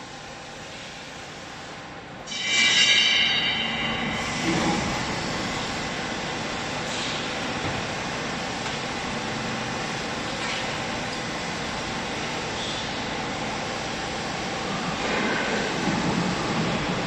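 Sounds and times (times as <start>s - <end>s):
hydraulic motor and pump running: 0.0s - 17.0s.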